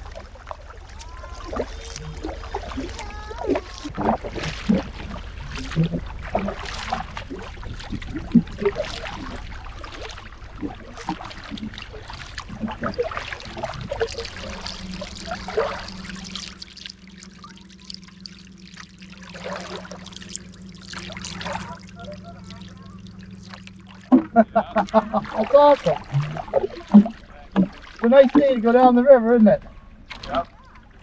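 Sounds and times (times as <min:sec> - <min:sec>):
low hum: 0:00.0 - 0:31.0
paddle strokes in water: 0:00.0 - 0:31.0
water splashing and trickling: 0:00.0 - 0:31.0.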